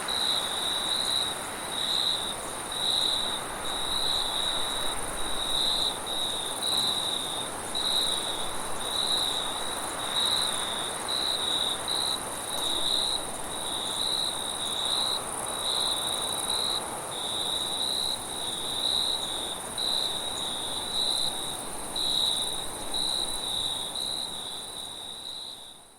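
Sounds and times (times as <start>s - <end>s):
crickets chirping: 0.0s - 25.9s
high insect trill: 0.1s - 25.9s.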